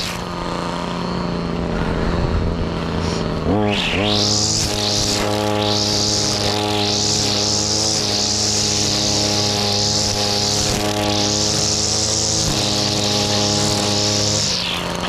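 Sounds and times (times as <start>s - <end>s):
brushcutter engine running: 0.0s - 15.0s
nylon line cutting grass: 0.0s - 15.0s.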